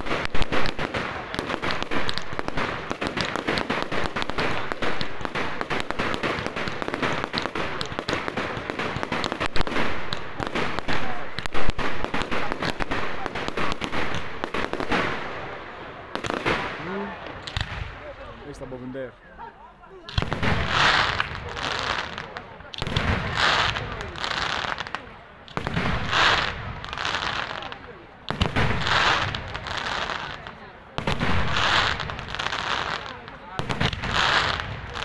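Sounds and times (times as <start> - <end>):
loud firework bangs: 0.0 - 18.4, 20.1 - 35.0
fireworks crackling and popping: 0.0 - 19.3, 19.9 - 35.0.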